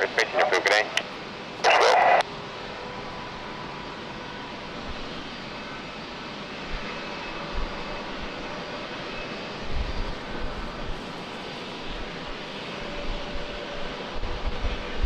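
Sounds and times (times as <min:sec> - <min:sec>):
distant jet engines running: 0:00.0 - 0:15.0.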